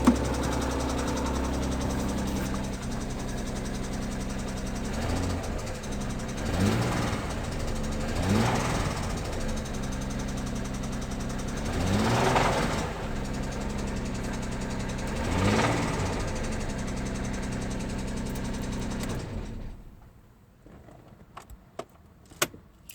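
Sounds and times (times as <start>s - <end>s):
car engine idling and revving: 0.0s - 20.2s.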